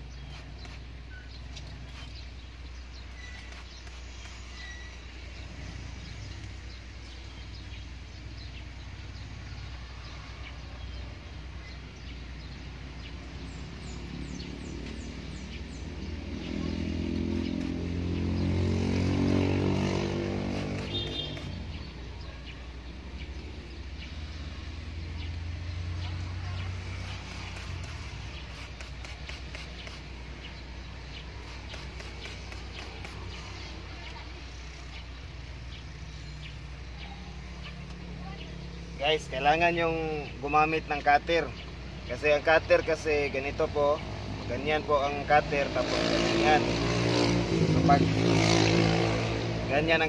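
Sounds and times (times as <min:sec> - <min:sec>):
vehicle engine passing by: 0:01.5 - 0:50.0.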